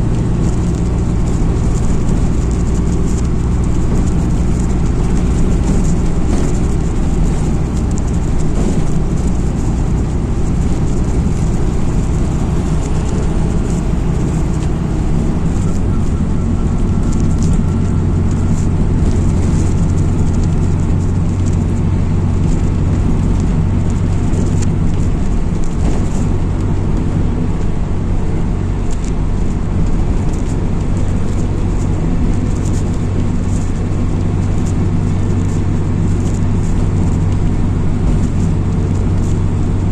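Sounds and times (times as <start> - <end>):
bus engine and road drone: 0.0 - 39.9
light rattles and clicks: 0.0 - 39.9.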